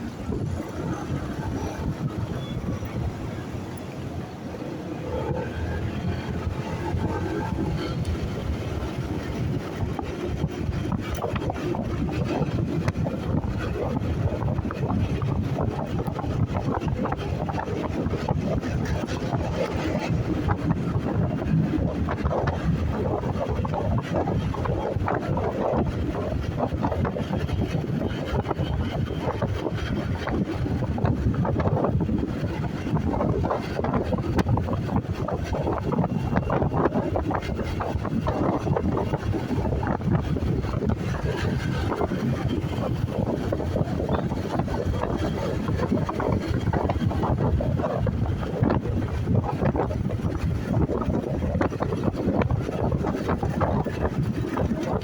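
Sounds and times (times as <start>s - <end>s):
motorcycle road noise: 0.0s - 55.0s
wind rushing over microphone: 0.0s - 55.0s.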